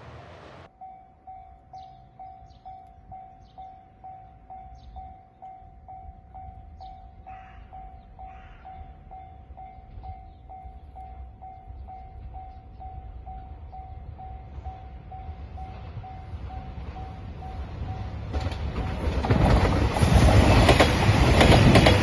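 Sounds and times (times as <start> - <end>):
level crossing warning bell: 0.4 - 19.4.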